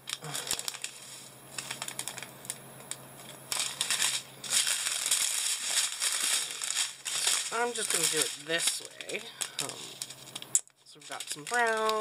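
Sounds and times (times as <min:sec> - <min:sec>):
plastic packets clicking: 0:00.0 - 0:01.0, 0:01.6 - 0:12.0
plastic and foil crinkling: 0:00.0 - 0:12.0.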